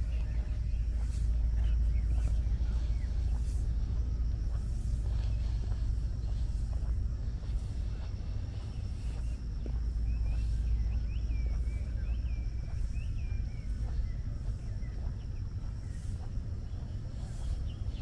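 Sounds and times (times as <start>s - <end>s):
small bird chirping: 0.0s - 18.0s
steady low outdoor rumble: 0.0s - 18.0s.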